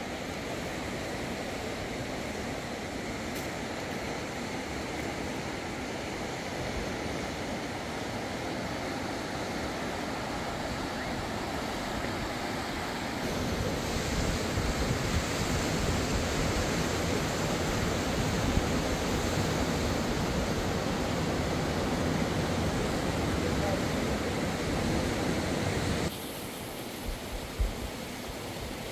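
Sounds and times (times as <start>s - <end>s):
river rushing over rapids: 0.0s - 28.9s.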